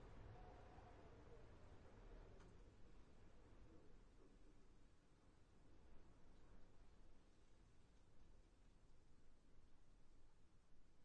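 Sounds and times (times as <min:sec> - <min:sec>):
low steady wind: 0:00.0 - 0:11.0.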